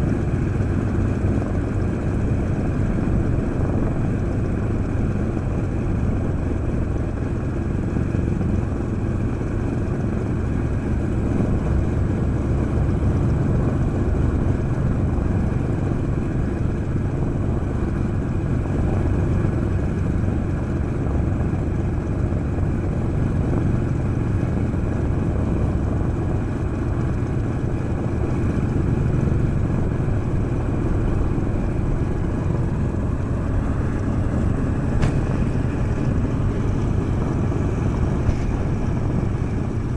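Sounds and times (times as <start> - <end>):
radial aircraft engine droning: 0.0 - 39.9.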